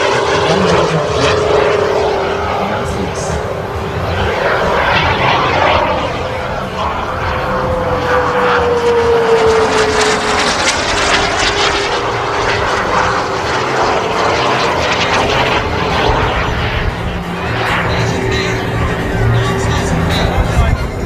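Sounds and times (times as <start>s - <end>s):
model jet turbine engine rushing: 0.0s - 21.0s.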